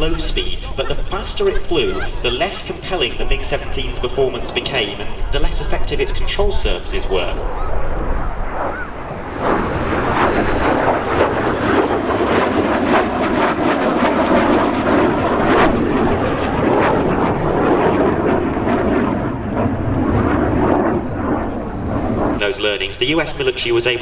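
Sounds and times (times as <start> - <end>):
jet engine roar with crackles: 0.0 - 24.0.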